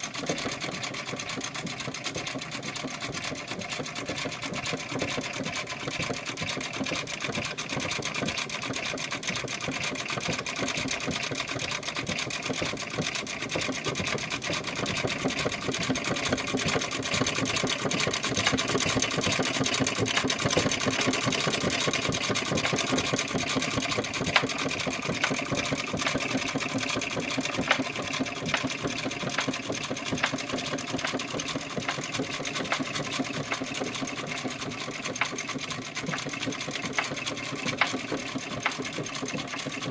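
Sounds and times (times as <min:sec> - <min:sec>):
sewing machine clattering: 0:00.0 - 0:39.9.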